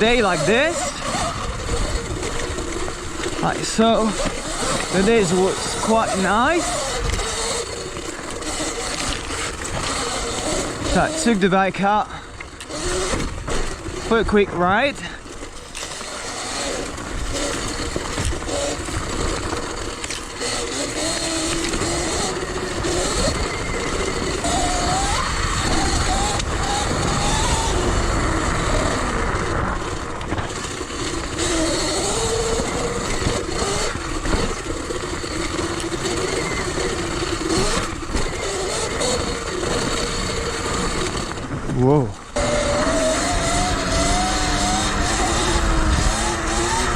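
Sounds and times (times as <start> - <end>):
wind rumbling on microphone: 0.0 - 11.2, 16.2 - 46.9
electric motor whine: 0.0 - 46.9.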